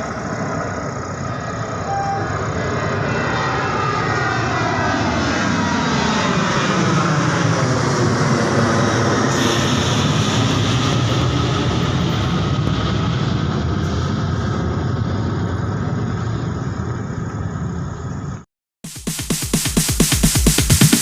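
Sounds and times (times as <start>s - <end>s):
jet engines roaring: 0.0s - 18.4s.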